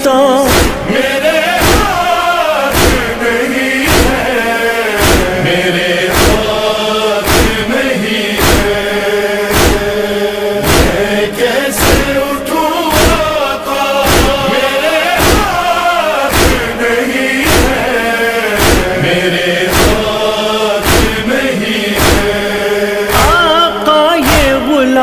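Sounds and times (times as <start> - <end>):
chorus of voices chanting: 0.0 - 25.0
deep steady thump: 0.5 - 12.3, 12.9 - 13.4, 14.0 - 23.6.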